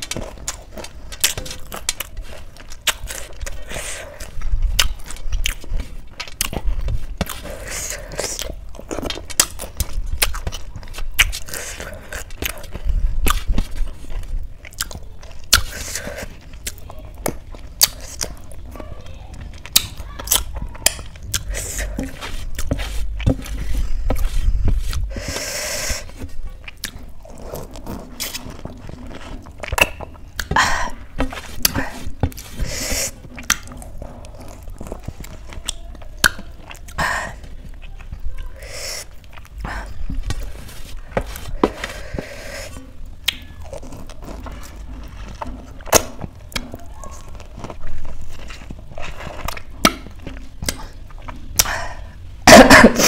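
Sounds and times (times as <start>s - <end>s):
chewing and crunching crisp food: 0.0s - 53.0s.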